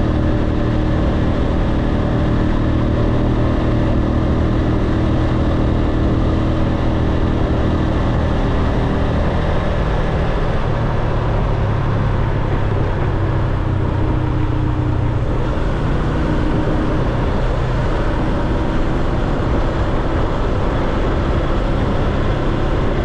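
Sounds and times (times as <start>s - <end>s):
faint motorcycle engine hum: 0.0s - 23.0s
road noise: 0.0s - 23.0s
wind rush on microphone: 0.0s - 23.0s.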